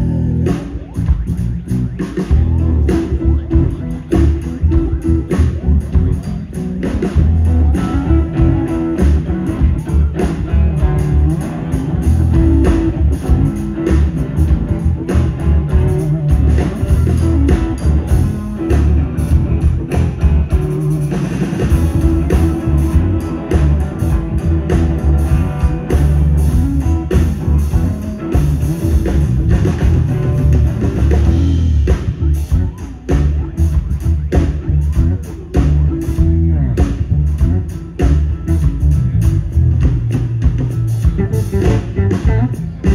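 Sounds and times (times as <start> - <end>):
distorted electric guitars: 0.0 - 42.9
drum kit: 0.0 - 42.9.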